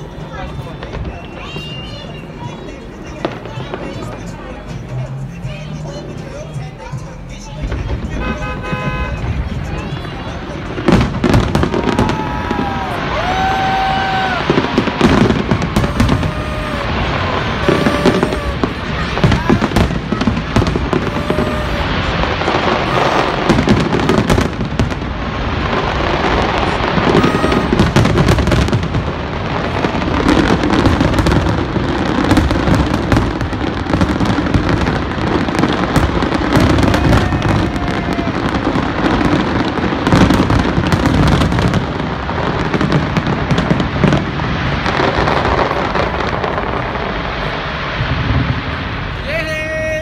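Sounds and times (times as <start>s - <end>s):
fireworks bangs and crackles: 0.0s - 50.0s.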